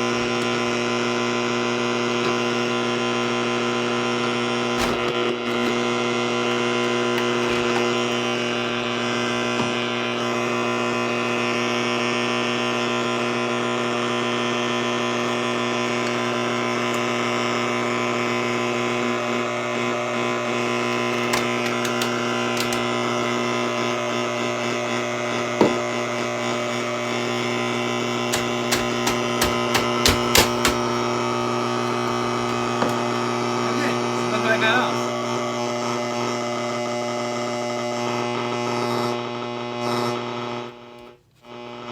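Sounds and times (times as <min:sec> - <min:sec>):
electrical hum: 0:00.0 - 0:41.9.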